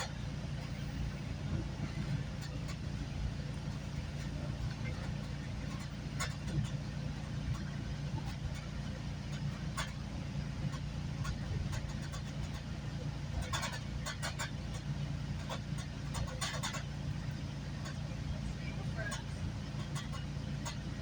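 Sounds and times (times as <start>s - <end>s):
sharp clicks and rattles: 0.0s - 21.0s
train rumble with hum: 0.0s - 21.0s.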